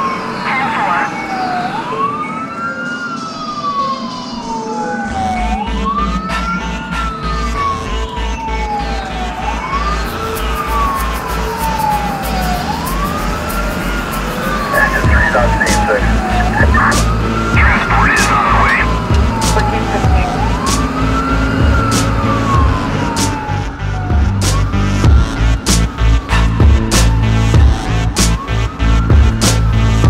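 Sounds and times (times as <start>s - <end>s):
emergency vehicle siren wailing: 0.0s - 30.0s.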